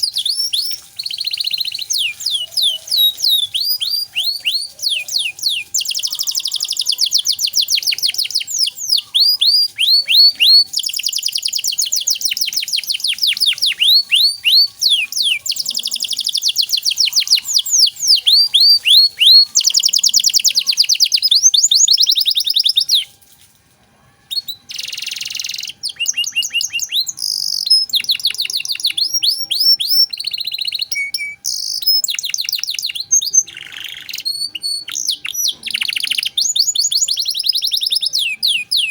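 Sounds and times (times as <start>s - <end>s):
canary singing rapid trills: 0.0s - 23.2s, 24.3s - 38.9s.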